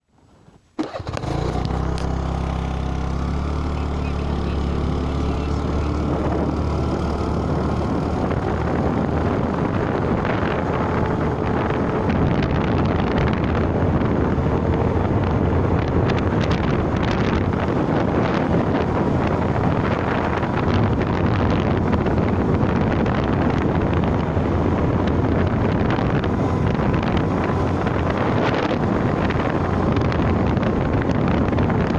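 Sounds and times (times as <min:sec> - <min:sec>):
road and wind noise: 0:00.1 - 0:31.9
wind buffeting microphone: 0:00.5 - 0:31.9
vehicle engine hum: 0:00.8 - 0:31.9.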